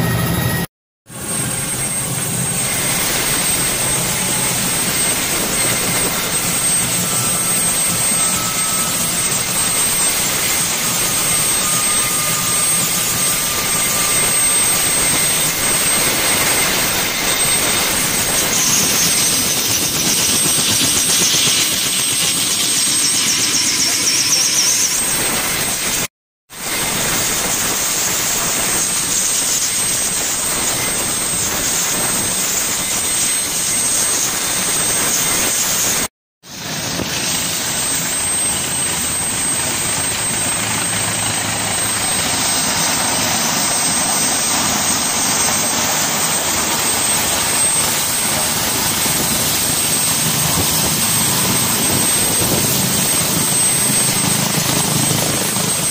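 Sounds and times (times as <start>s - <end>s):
helicopter turbine and rotor noise: 0.0s - 55.9s.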